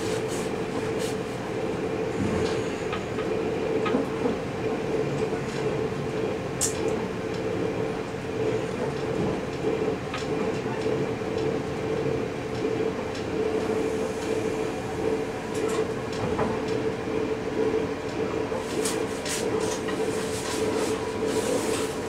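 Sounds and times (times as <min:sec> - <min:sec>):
train running along track: 0:00.0 - 0:22.0.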